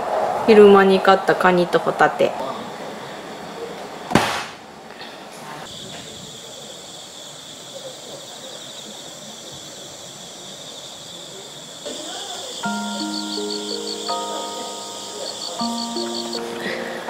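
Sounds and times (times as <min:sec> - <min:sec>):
night insects trilling: 0:00.2 - 0:04.1, 0:05.6 - 0:17.0.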